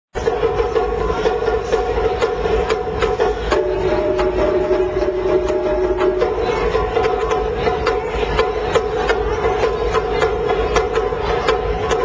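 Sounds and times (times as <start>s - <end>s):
taiko drums: 0.2s - 12.0s
held pitched tone: 0.5s - 10.8s.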